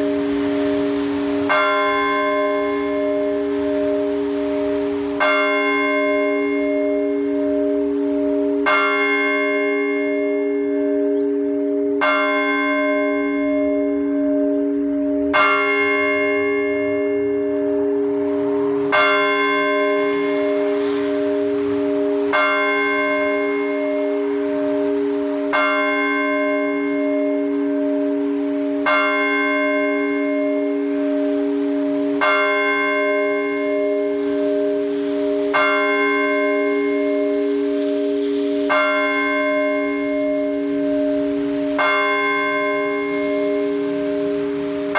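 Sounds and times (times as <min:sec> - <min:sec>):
church bell strokes: 0:00.0 - 0:44.9.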